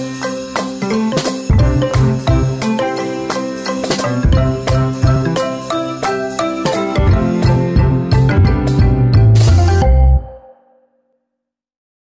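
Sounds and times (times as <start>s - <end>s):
melody of struck notes over beat: 0.0s - 10.5s.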